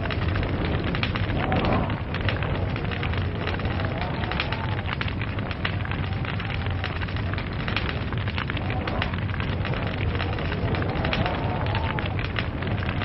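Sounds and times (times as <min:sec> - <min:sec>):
log fire crackling: 0:00.0 - 0:13.0.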